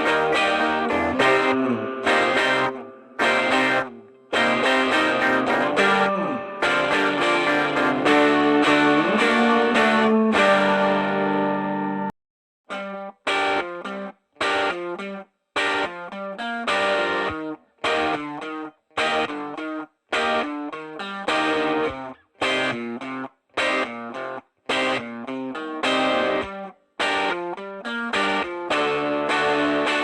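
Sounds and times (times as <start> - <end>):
guitar-led music: 0.0 - 12.1, 12.7 - 30.0.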